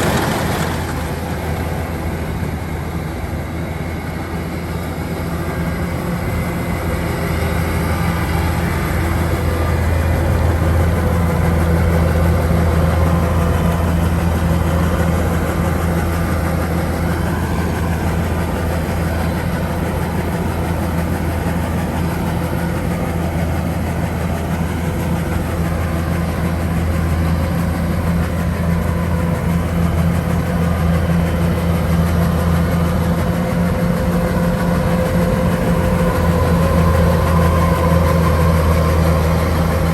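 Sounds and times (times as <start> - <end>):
diesel engine humming: 0.0 - 39.9
machinery noise: 0.0 - 39.9.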